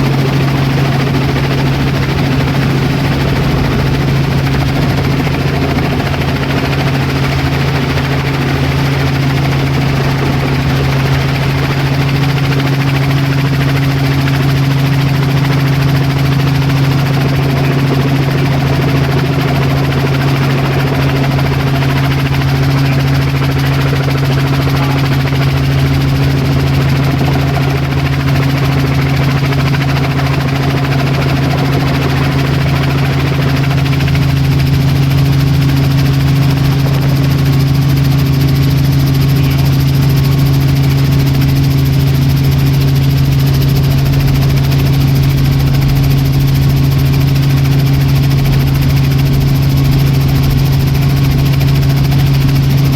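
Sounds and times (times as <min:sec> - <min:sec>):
helicopter flying: 0:00.0 - 0:52.9.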